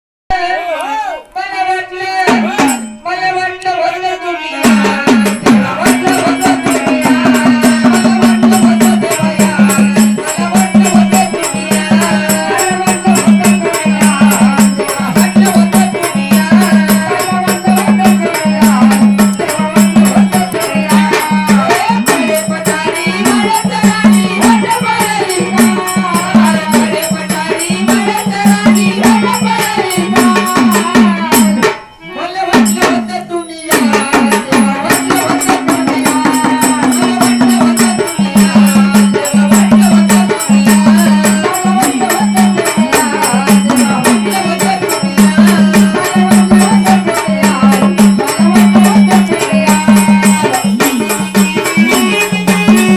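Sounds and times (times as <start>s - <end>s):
rattling percussion rhythm: 2.3s - 3.2s, 4.6s - 52.9s.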